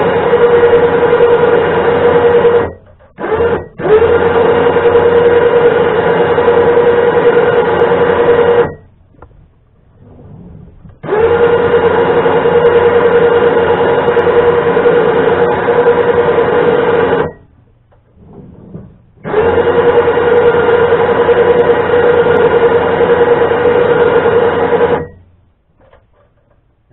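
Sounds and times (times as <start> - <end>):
electric winch motor whining: 0.0 - 8.9, 10.0 - 17.5, 18.2 - 25.3.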